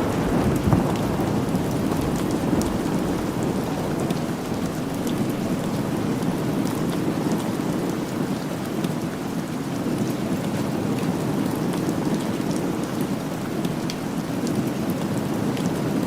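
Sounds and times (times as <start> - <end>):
raindrops ticking: 0.0 - 16.0
steady rain falling: 0.0 - 16.0.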